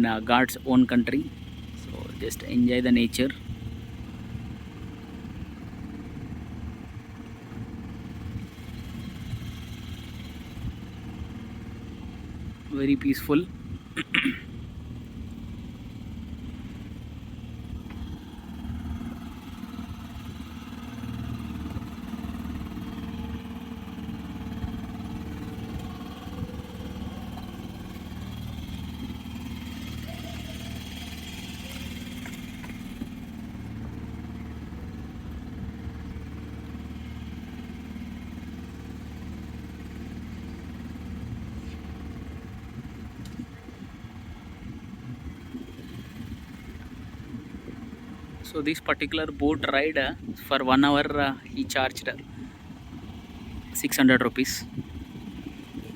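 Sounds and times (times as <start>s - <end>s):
boat engine low drone: 0.0s - 55.9s.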